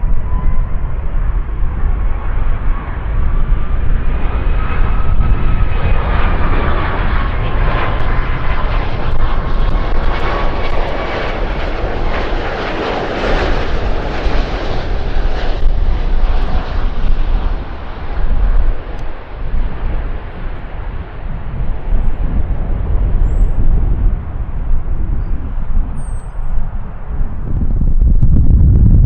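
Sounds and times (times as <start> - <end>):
jet aircraft engine rushing: 0.0 - 29.0
jet engine whine: 0.0 - 29.0.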